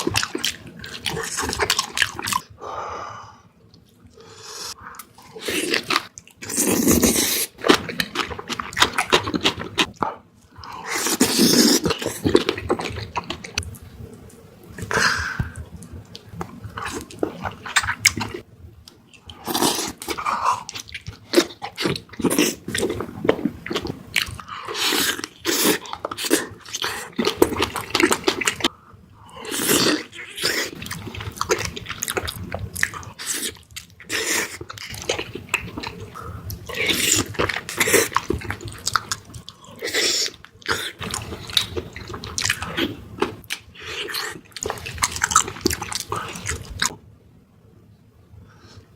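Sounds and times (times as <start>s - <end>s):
wet chewing and biting: 0.0s - 2.4s, 4.9s - 10.1s, 10.7s - 18.4s, 19.1s - 28.7s, 29.4s - 46.9s.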